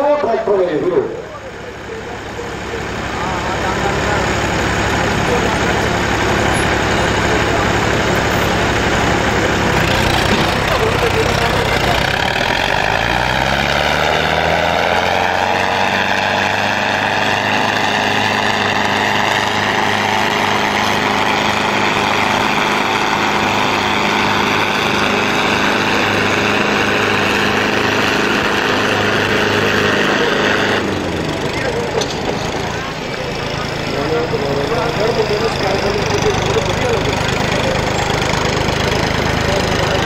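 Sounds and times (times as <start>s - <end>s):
tractor engines revving: 0.0s - 40.0s.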